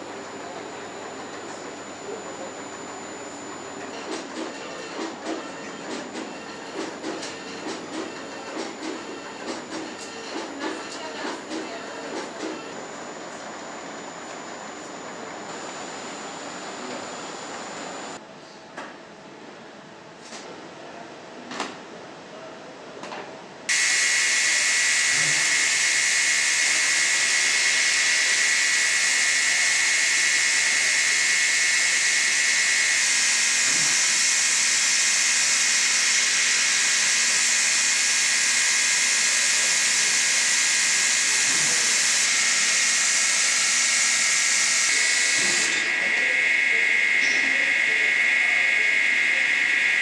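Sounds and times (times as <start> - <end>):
high machine whine: 0.0 - 18.2, 23.7 - 50.0
loud steady machine hiss: 0.0 - 18.2, 23.7 - 50.0.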